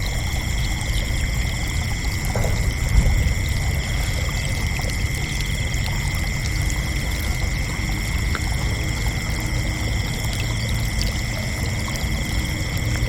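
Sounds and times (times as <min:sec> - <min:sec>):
crickets chirping: 0:00.0 - 0:13.0
low rumble: 0:00.0 - 0:13.0.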